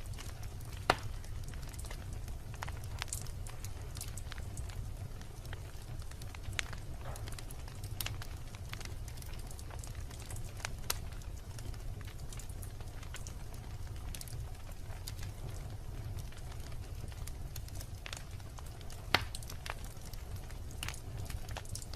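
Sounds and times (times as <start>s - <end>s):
low rumble of flame: 0.0s - 21.9s
wood fire crackling and popping: 0.0s - 21.9s.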